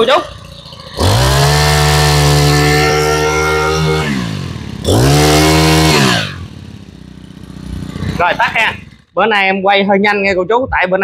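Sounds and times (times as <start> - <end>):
brush-cutter engine revving: 0.0 - 9.1.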